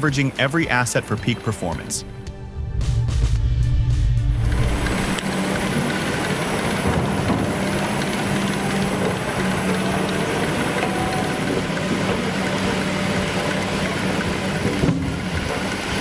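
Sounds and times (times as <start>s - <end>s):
heavy machinery running: 2.0s - 16.0s.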